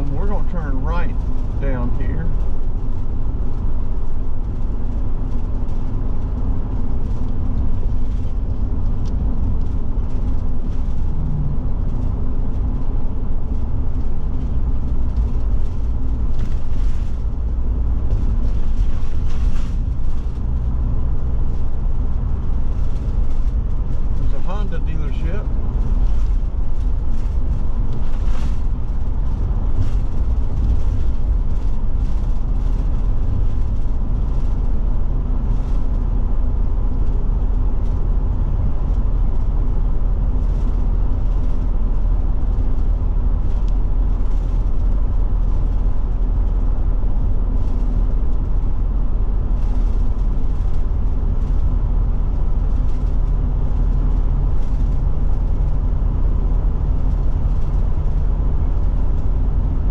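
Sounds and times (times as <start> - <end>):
engine drone and road rumble: 0.0 - 59.9
light ticks and rattles: 0.0 - 59.9.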